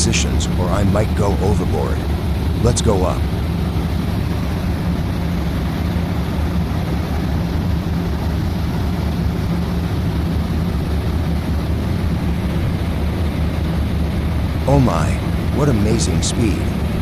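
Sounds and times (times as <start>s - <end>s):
boat engines droning: 0.0s - 17.0s
rushing water and wind: 0.0s - 17.0s.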